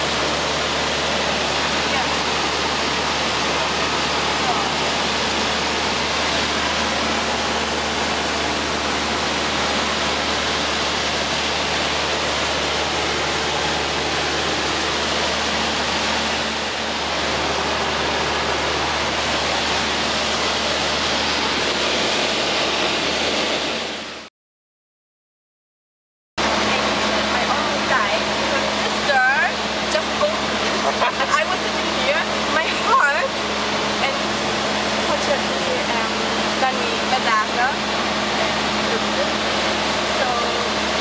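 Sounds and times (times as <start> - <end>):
airplane cabin noise: 0.0 - 24.3, 26.4 - 41.0
low engine drone: 0.0 - 24.3, 26.4 - 41.0.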